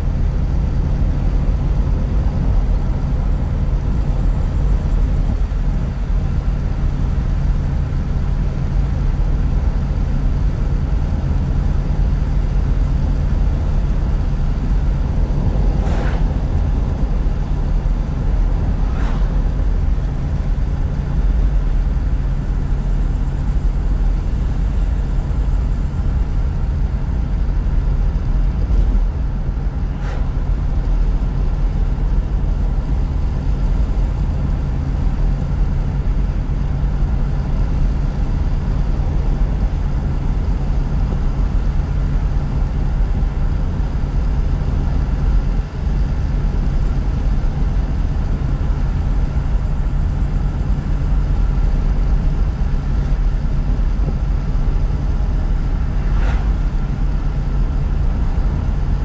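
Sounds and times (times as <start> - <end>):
car engine and road drone: 0.0 - 59.0.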